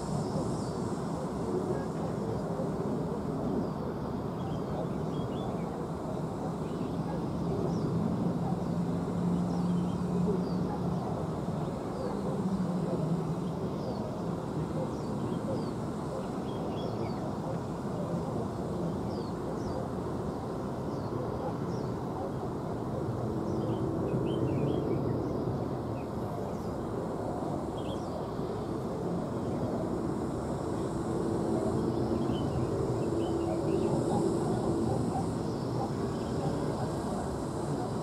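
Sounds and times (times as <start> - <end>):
distant jet engines idling: 0.0 - 38.0.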